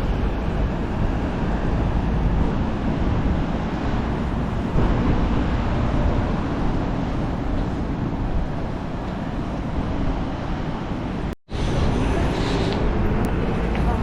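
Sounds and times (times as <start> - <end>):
passing traffic: 0.0 - 14.0
wind rumble on microphone: 0.0 - 14.0.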